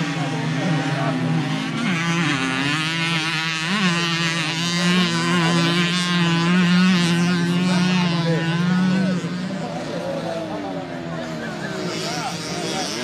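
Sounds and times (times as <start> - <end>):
moped engines revving: 0.0 - 13.0.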